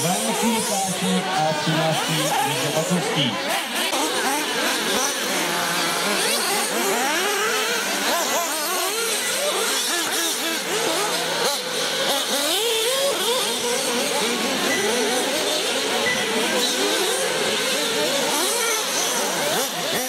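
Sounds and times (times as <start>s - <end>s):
model car motors whining: 0.0s - 20.0s.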